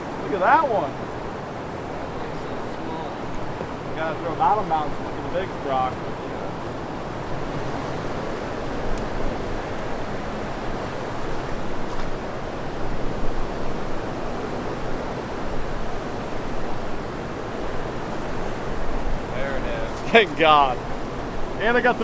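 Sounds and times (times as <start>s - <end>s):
turbulent river water rushing: 0.0s - 22.0s.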